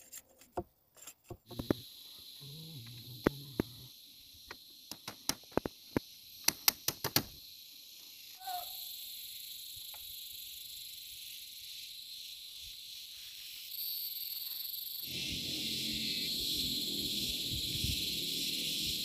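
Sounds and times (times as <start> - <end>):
forest insects droning: 1.4 - 19.0.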